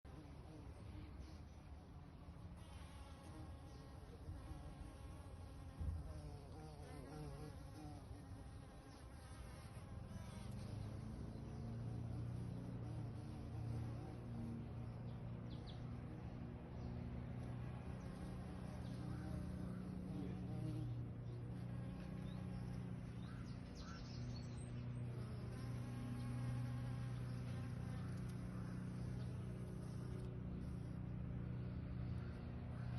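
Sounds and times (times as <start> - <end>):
bees buzzing: 0.1 - 32.9.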